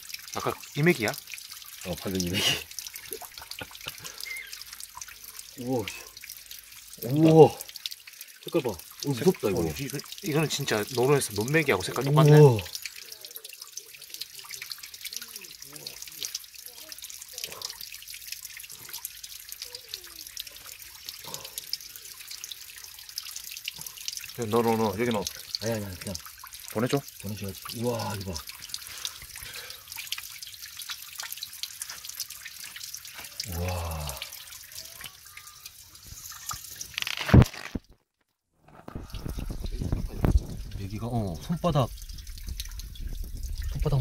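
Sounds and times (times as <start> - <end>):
water splashing: 0.0 - 37.9, 38.8 - 44.0
stream trickling over rocks: 0.0 - 38.0, 38.6 - 44.0.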